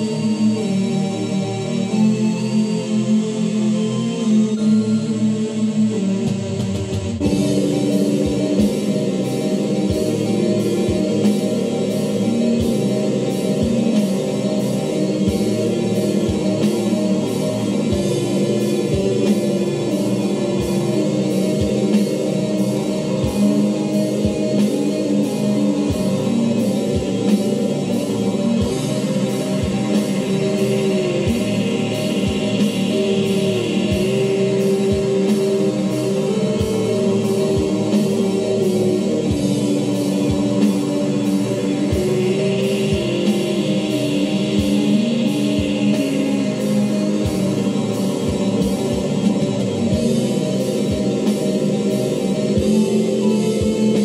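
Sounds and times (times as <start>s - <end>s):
guitar: 0.0s - 54.0s
drum kit beat: 6.2s - 54.0s.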